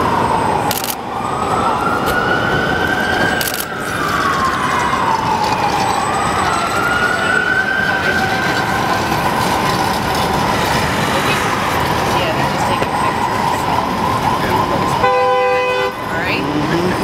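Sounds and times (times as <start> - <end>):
emergency siren wailing: 0.0 - 17.0
street noise: 0.0 - 17.0.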